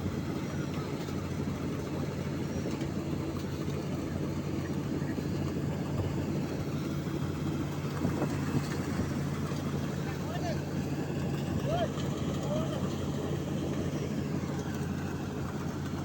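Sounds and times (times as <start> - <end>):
harvester engine droning: 0.0 - 16.0.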